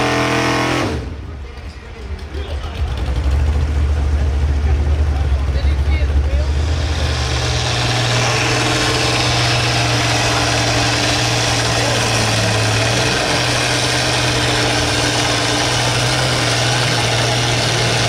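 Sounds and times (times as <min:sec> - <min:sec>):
truck engine idling loudly: 0:00.0 - 0:18.0.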